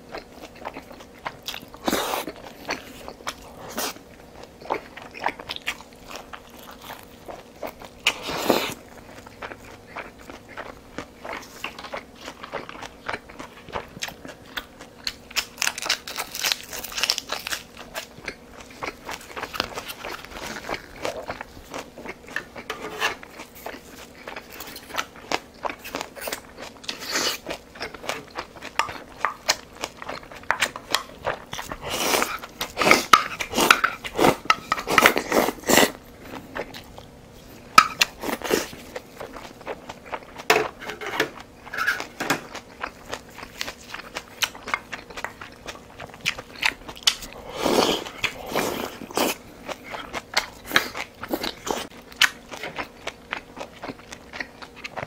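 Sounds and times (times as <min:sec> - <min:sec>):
chewing and biting food: 0:00.0 - 0:55.0.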